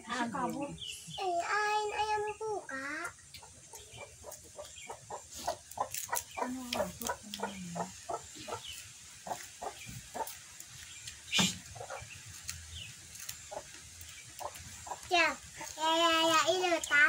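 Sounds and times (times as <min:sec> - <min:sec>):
chickens clucking: 0:00.1 - 0:17.0.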